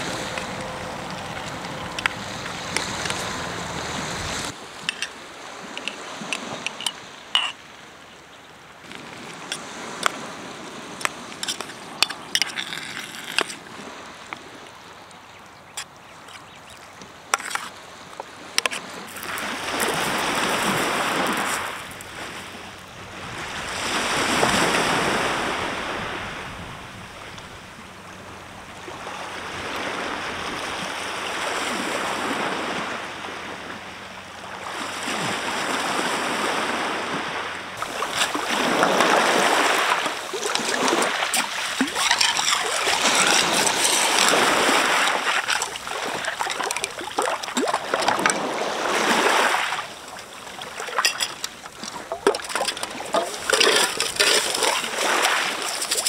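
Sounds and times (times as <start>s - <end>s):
sea waves washing onto shore: 0.0s - 7.9s, 8.8s - 15.2s, 15.8s - 27.6s, 28.7s - 56.0s.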